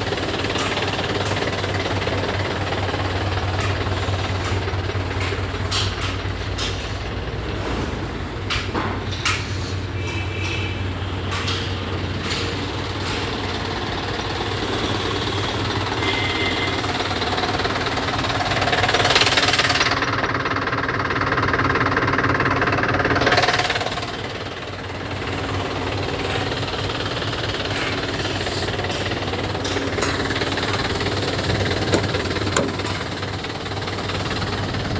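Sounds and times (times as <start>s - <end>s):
truck diesel engine idling: 0.0s - 8.6s, 9.4s - 34.9s.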